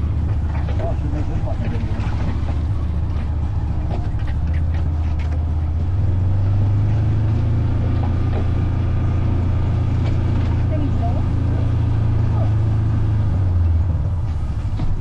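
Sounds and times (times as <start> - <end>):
off-road vehicle engine droning: 0.0 - 15.0.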